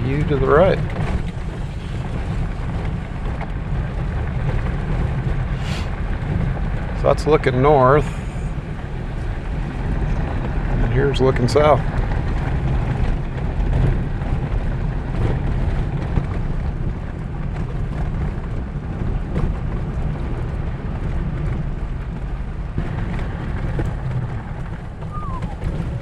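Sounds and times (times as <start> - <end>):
engine and tyre rumble: 0.0 - 26.0.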